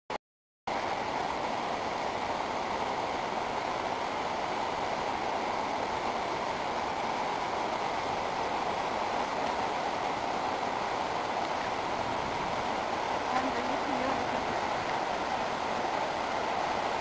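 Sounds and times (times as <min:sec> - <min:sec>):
river rushing: 0:00.7 - 0:17.0.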